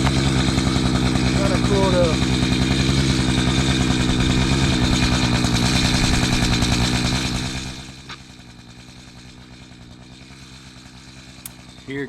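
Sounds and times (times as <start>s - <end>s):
chainsaw engine revving and idling: 0.0s - 12.0s.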